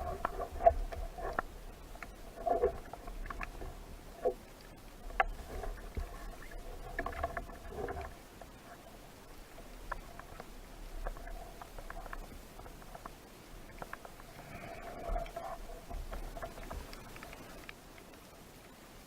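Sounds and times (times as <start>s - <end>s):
scratchy crackles: 0.0s - 4.4s, 5.0s - 17.8s
low underwater rumble: 0.0s - 17.6s.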